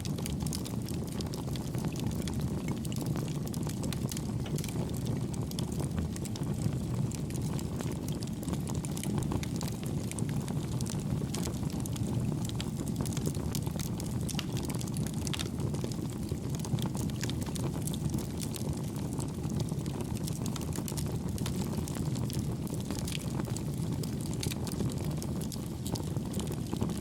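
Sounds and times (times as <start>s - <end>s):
burning wood crackling: 0.0s - 27.0s
low rumble of flames: 0.0s - 27.0s.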